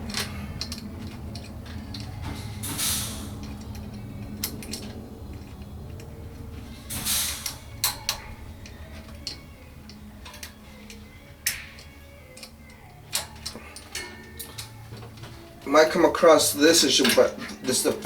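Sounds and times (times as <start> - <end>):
clicks and scrapes of wires: 0.0 - 15.7
faint low hum: 0.0 - 18.0.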